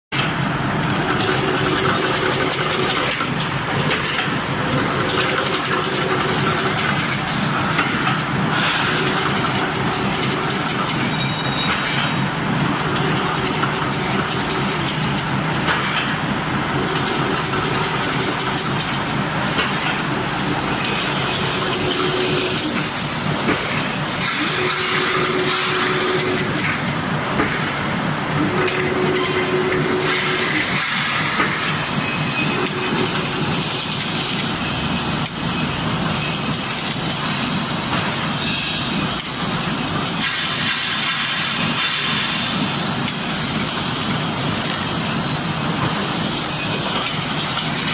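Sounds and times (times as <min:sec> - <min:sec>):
wire fence machine running: 0:00.2 - 0:47.9.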